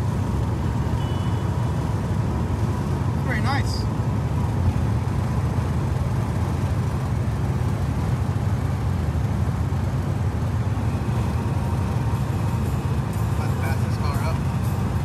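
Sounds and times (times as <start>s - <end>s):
car engine drone in cabin: 0.0s - 15.0s
road noise: 0.0s - 15.0s.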